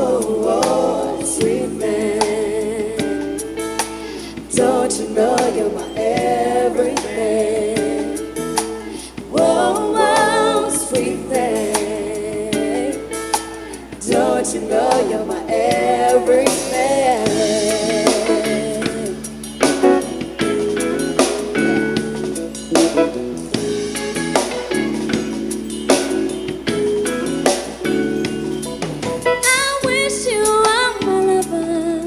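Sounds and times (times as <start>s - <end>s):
soul song with vibrato vocal: 0.0s - 32.0s.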